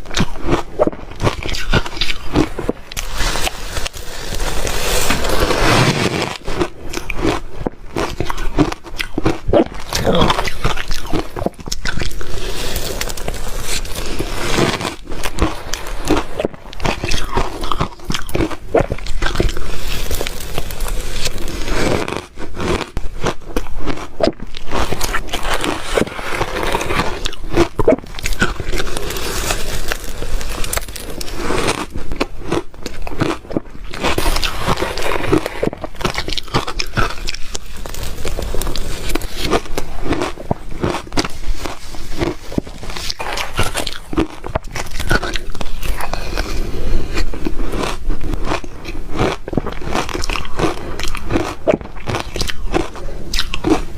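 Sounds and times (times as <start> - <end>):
person chewing ice: 0.0 - 53.9.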